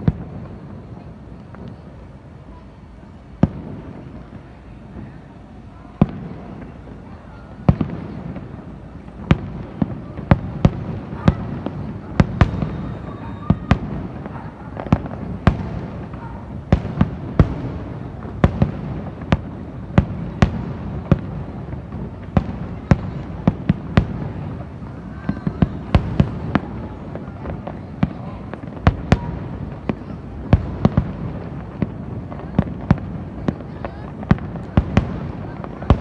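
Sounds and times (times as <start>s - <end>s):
fireworks bangs and cracks: 0.0s - 36.0s
low rumble of fireworks: 0.0s - 36.0s.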